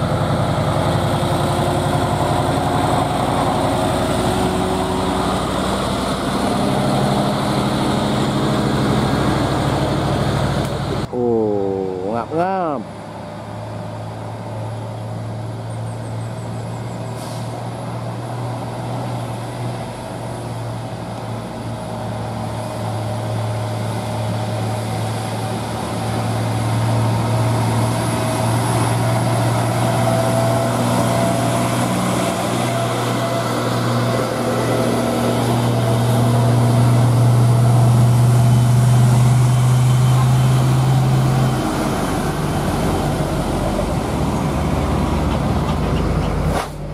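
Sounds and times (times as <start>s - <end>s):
truck diesel engines labouring: 0.0s - 46.9s.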